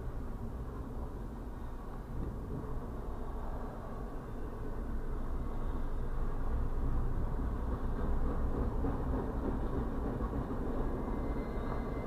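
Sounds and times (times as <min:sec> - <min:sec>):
muffled train wheels rumbling on rail: 0:00.0 - 0:12.0.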